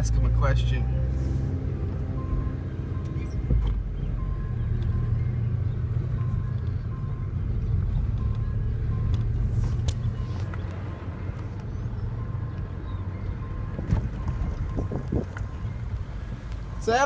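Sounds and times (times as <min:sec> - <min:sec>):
car moving rumble: 0:00.0 - 0:17.0.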